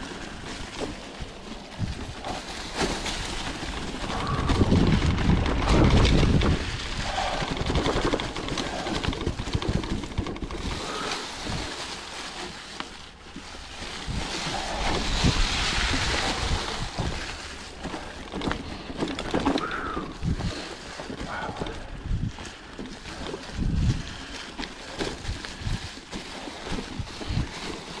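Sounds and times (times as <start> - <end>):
bike knocking and rattling: 0.0 - 28.0
bike tyres on dry leaves: 0.0 - 28.0
wind rumbling on microphone: 0.0 - 28.0.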